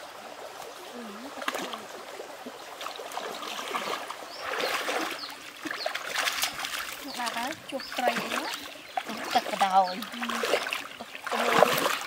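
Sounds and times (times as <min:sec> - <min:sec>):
feet splashing through water: 0:00.0 - 0:12.0
water trickling over rocks: 0:00.0 - 0:12.0.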